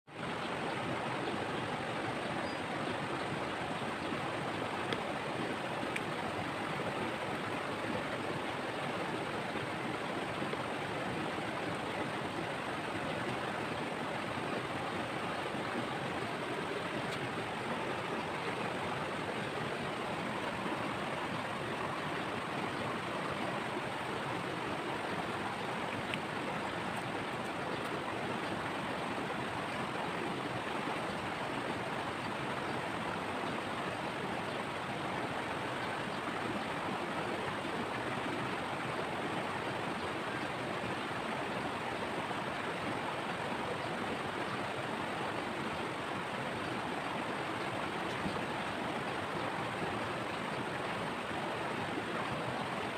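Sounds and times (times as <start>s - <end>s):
river flowing over stones: 0.1s - 52.9s.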